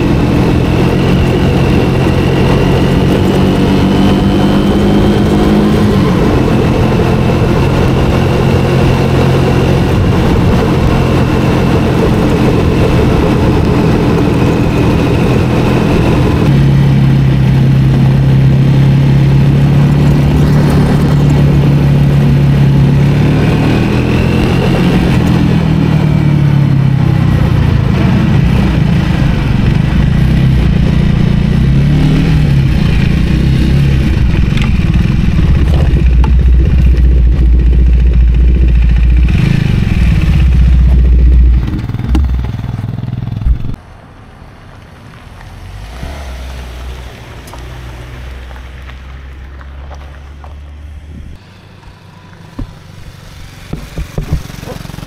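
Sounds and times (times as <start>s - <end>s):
motorcycle engine running: 0.0s - 43.8s, 48.3s - 55.0s.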